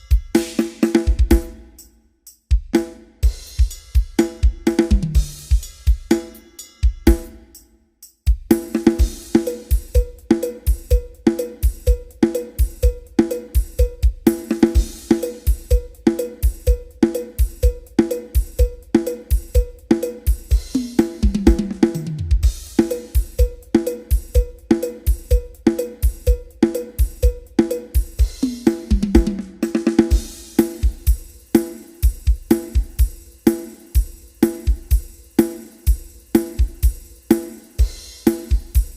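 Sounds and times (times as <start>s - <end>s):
drum kit playing a beat: 0.0s - 38.9s.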